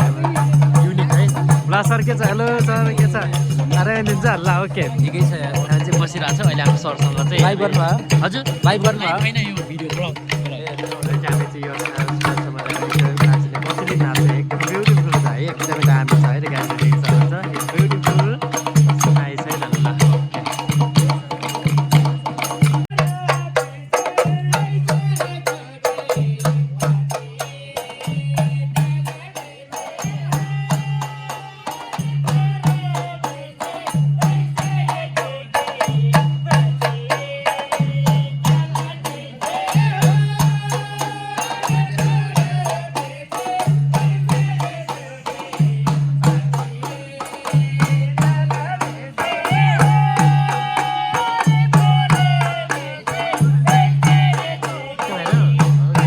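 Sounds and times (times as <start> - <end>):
fast clicking percussion: 0.0 - 56.0.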